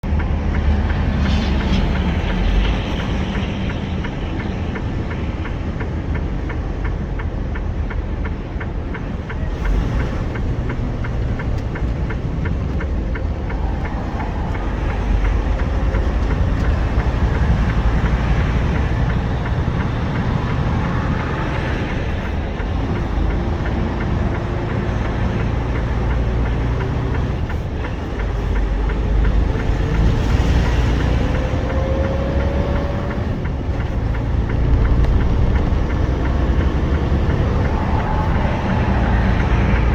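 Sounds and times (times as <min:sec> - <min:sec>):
highway vehicle and road noise: 0:00.0 - 0:39.9
light ticking: 0:00.1 - 0:39.9.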